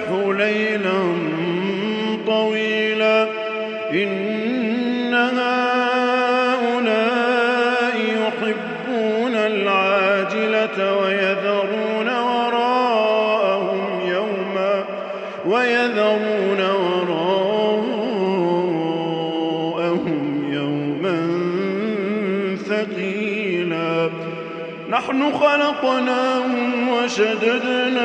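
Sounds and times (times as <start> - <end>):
man chanting recitation: 0.0 - 28.0.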